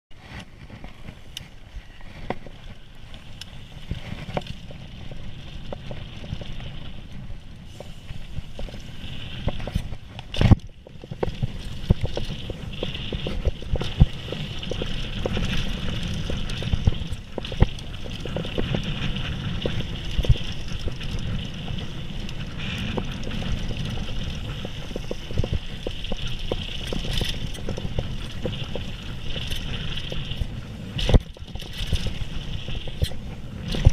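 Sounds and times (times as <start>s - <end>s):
wind and tyre noise: 0.1s - 33.9s
bike clicks and rattles: 0.2s - 33.9s.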